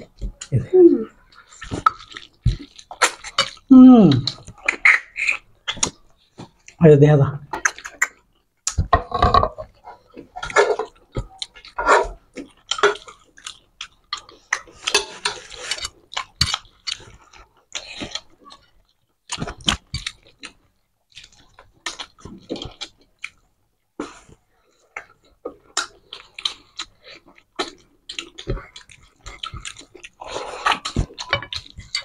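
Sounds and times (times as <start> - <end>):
wet chewing and mouth-smacking: 1.2 - 6.8, 7.5 - 32.0.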